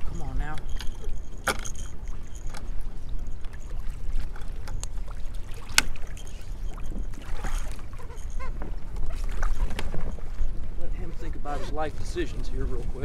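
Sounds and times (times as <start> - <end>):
water lapping against kayak: 0.0 - 13.0
wind rumbling on microphone: 0.0 - 13.0.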